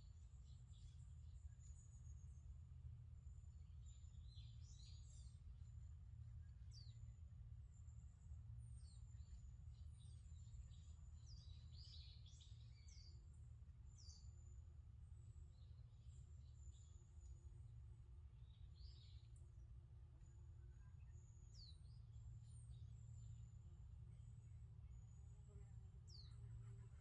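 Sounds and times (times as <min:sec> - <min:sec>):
small birds chirping: 0:00.1 - 0:02.5, 0:03.2 - 0:05.7, 0:06.4 - 0:27.0.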